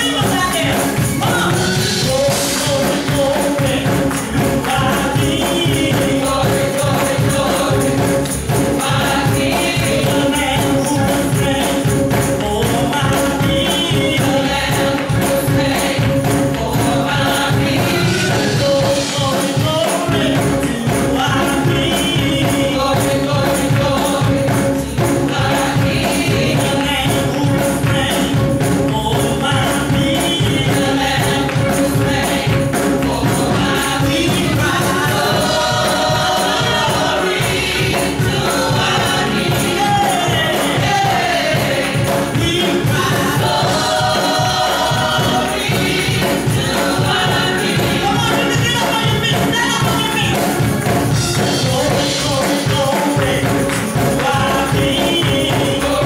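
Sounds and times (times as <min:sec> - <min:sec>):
gospel group singing in harmony: 0:00.0 - 0:56.0
keyboard: 0:00.0 - 0:56.0
lead voice singing: 0:00.0 - 0:56.0
steady percussion beat: 0:00.0 - 0:56.0.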